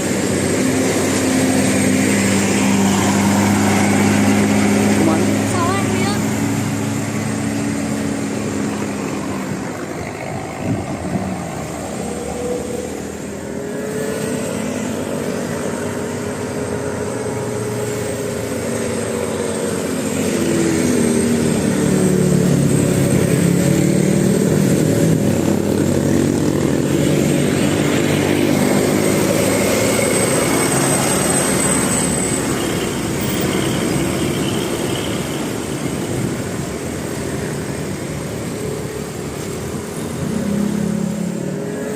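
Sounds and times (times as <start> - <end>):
bus engine accelerating: 0.0 - 41.9.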